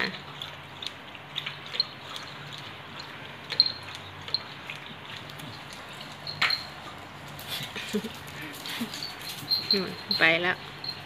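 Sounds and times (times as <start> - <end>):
dog eating on tile floor: 0.0 - 11.0.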